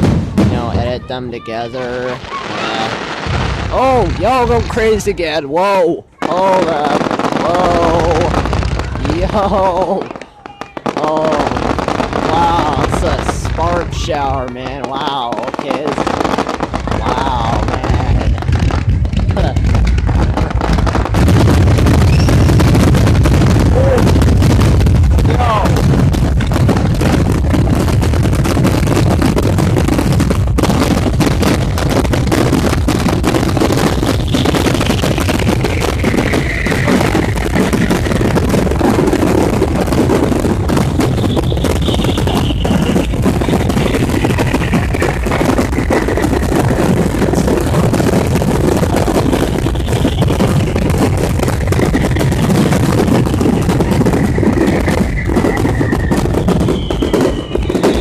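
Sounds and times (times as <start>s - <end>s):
fireworks booms and crackling: 0.0s - 58.0s.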